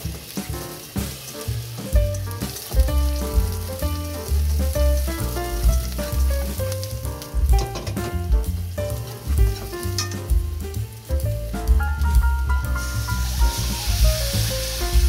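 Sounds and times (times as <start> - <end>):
music with rhythmic bass line: 0.0 - 15.0
vegetables sizzling in oil: 0.0 - 15.0.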